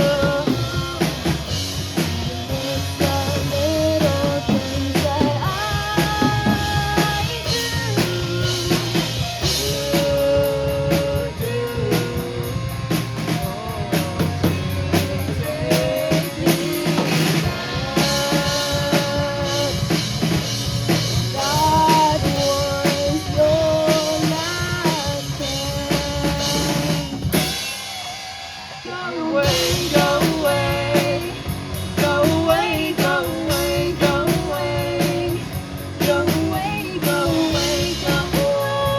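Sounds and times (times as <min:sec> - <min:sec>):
person singing: 0:00.0 - 0:27.6, 0:28.7 - 0:38.9
drum kit: 0:00.0 - 0:38.9
rock band playing: 0:00.0 - 0:38.9.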